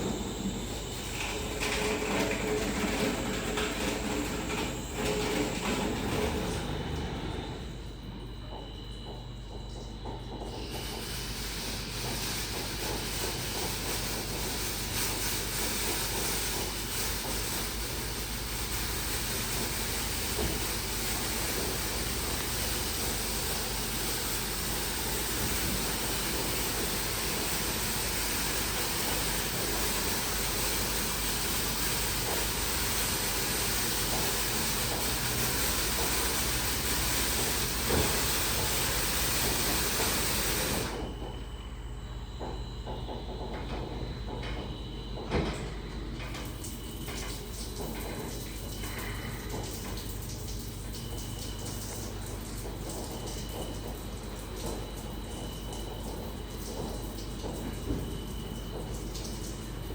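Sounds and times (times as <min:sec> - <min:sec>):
car wash water jets hissing: 0:00.0 - 0:07.9, 0:10.6 - 0:41.1, 0:46.4 - 0:59.9.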